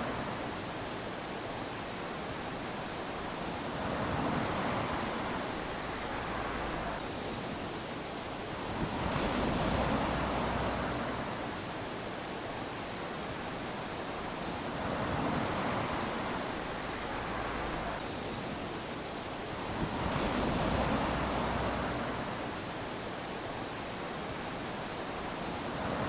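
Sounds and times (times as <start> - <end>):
small waves lapping on sand: 0.0 - 26.0.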